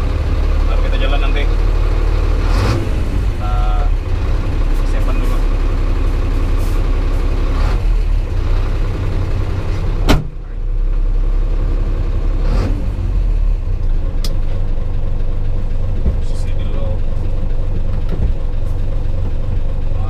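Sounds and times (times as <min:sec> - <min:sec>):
truck diesel engine idling: 0:00.0 - 0:20.0.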